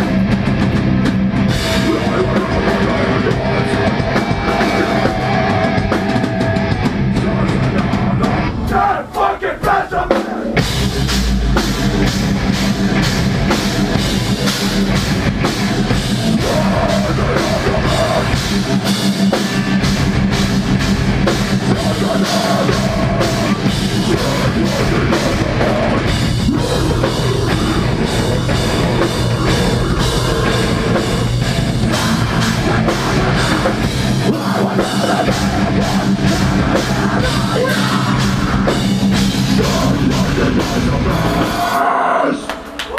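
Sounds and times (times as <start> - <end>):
fast drum kit: 0.0 - 42.9
heavy distorted electric guitars: 0.0 - 42.9.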